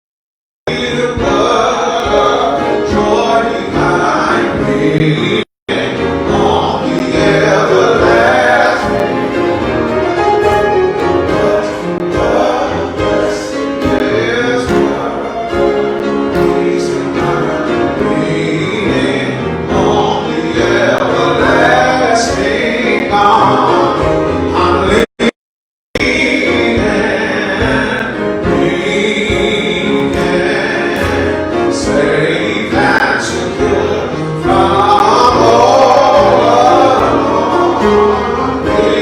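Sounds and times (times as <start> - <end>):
instrumental accompaniment: 0.7 - 25.0, 26.0 - 39.0
gospel singing: 0.7 - 25.3, 26.0 - 39.0.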